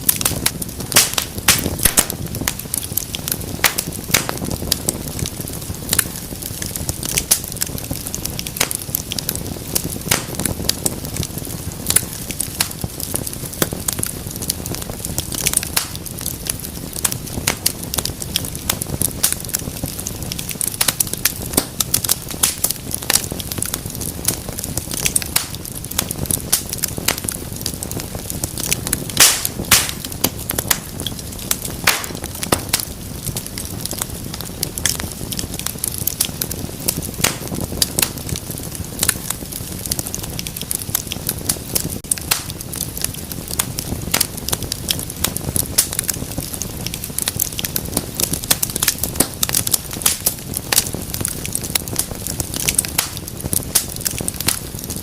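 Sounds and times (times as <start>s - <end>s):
fire crackling and popping: 0.0s - 55.0s
flames rumbling: 0.0s - 55.0s.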